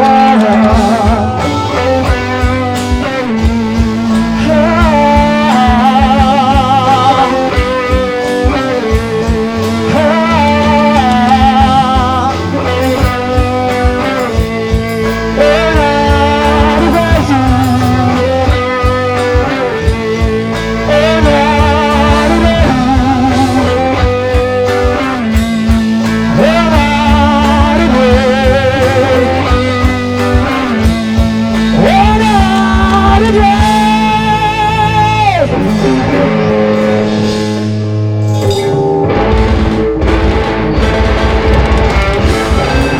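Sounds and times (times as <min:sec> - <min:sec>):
bass guitar: 0:00.0 - 0:42.9
drums: 0:00.0 - 0:42.9
lead guitar with heavy vibrato: 0:00.0 - 0:42.9.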